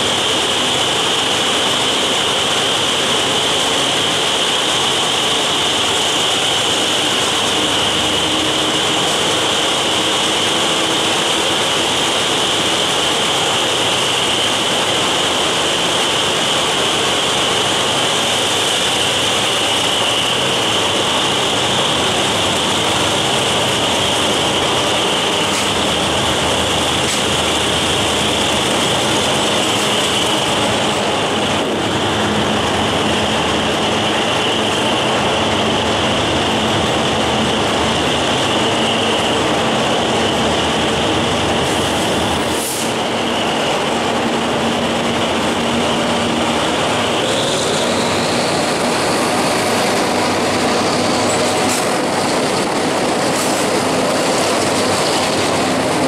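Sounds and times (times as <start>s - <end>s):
high whine from wheels: 0.0s - 56.0s
train rumble and wind: 0.0s - 56.0s.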